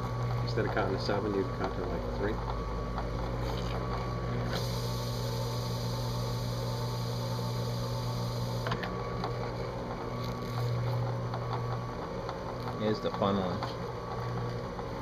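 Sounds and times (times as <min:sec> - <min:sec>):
drill press motor hum: 0:00.0 - 0:15.0.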